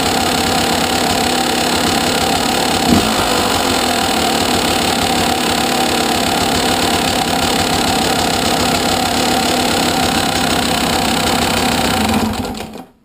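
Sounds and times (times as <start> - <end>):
two-stroke engine idling: 0.0 - 12.8.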